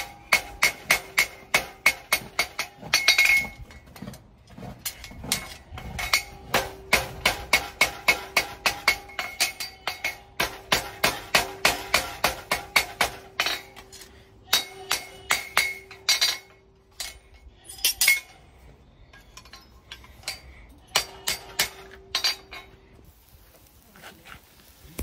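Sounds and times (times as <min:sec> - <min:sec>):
anvil ringing: 0:00.0 - 0:03.7, 0:04.9 - 0:18.4, 0:19.1 - 0:22.8
hammer striking horseshoe on anvil: 0:00.0 - 0:03.8, 0:04.8 - 0:18.4, 0:19.2 - 0:22.8
metal handling: 0:00.0 - 0:23.0.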